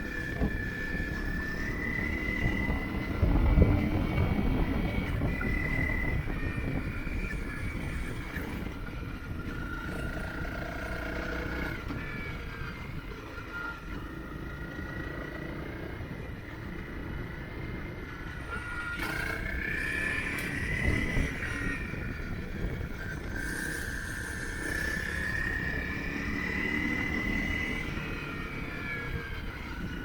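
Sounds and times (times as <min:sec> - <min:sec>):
motorcycle engine running: 0:00.0 - 0:30.0
wind noise on microphone: 0:00.0 - 0:30.0.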